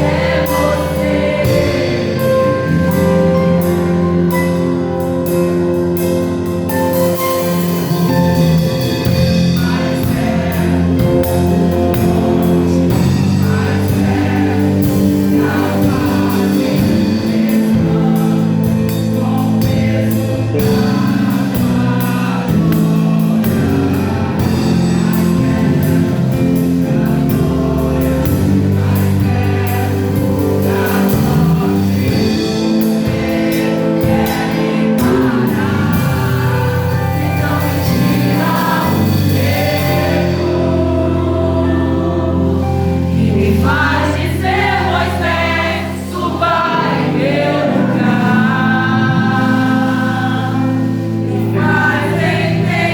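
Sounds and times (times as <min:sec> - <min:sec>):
singers leading a praise song: 0:00.0 - 0:05.8, 0:06.5 - 0:52.9
bass guitar: 0:00.0 - 0:52.9
drums: 0:00.0 - 0:52.9
keyboard playing: 0:00.0 - 0:52.9.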